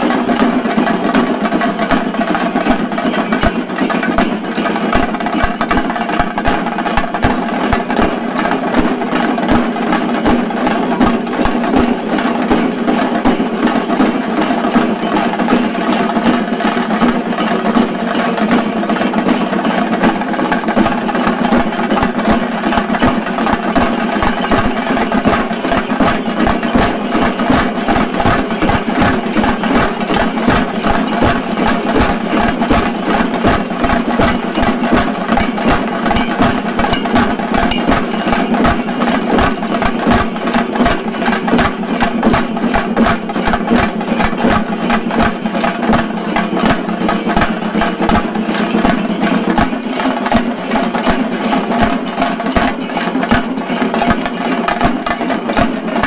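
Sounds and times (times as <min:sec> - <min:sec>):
drums beaten fast with sticks: 0:00.0 - 0:56.0.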